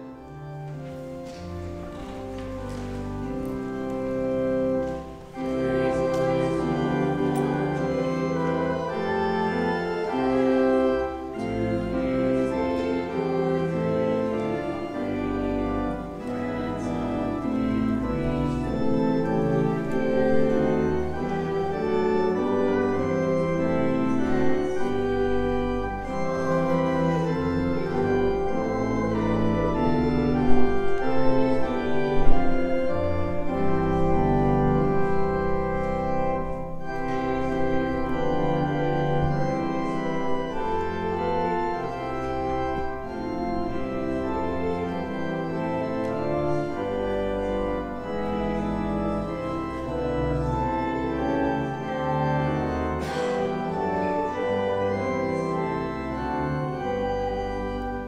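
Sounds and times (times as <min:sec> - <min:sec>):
church organ playing a hymn: 0:00.0 - 0:58.0.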